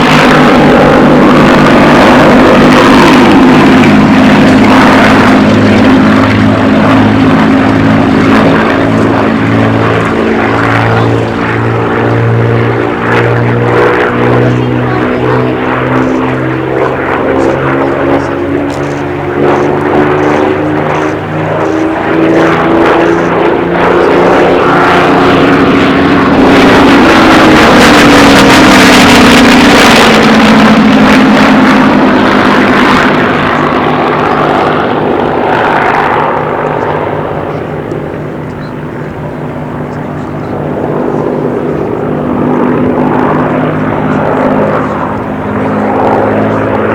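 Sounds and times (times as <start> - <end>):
propeller aircraft flying past: 0.0 - 46.9.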